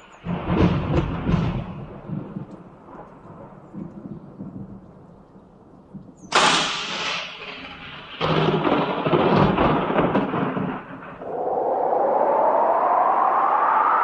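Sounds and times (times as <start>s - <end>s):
thunder rumbling and cracking: 0.3s - 5.1s, 5.9s - 14.0s.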